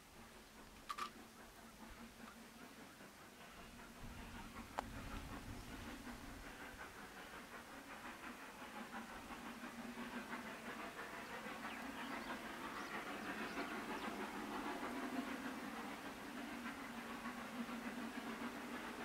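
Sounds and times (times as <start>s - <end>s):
distant steam locomotive chuffing: 0.0s - 19.0s.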